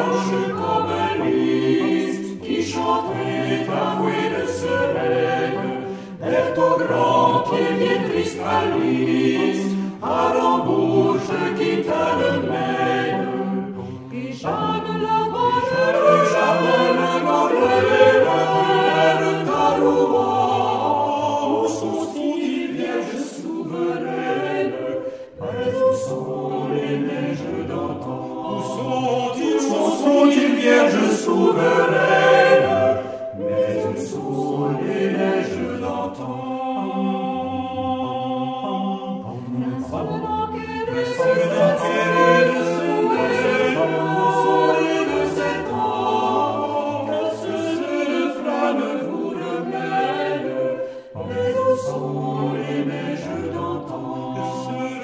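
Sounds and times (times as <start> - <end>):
mixed choir singing in harmony: 0.0 - 55.0.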